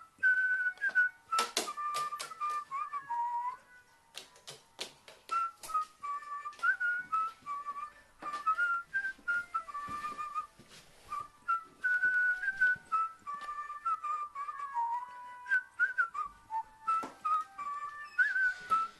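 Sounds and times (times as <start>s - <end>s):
whistled melody: 0.0s - 4.3s, 5.3s - 18.9s.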